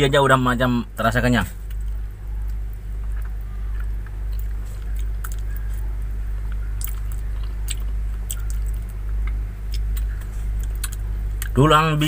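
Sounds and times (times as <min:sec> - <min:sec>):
man chewing: 0:01.6 - 0:11.6.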